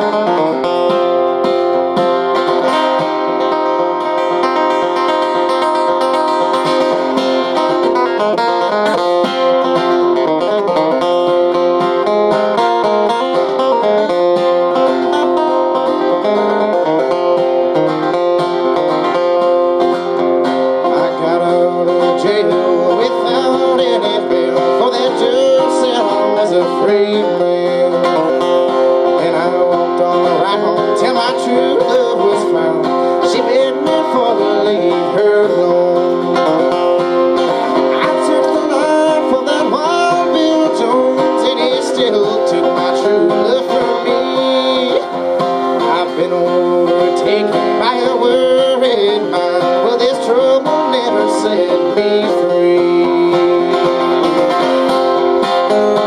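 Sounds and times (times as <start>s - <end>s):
fast flatpicked acoustic guitar: 0.0s - 56.0s.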